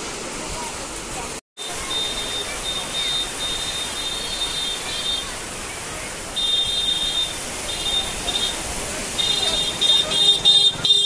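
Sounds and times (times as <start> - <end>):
floodwater rushing: 0.0 - 11.0
wind: 0.0 - 11.0.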